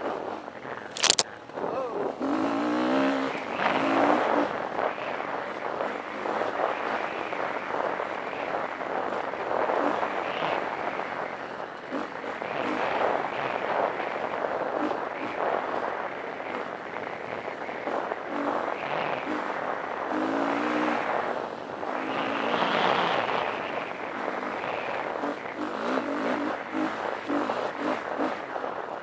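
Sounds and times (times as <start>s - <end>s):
dirt bike engine running: 2.1s - 29.0s.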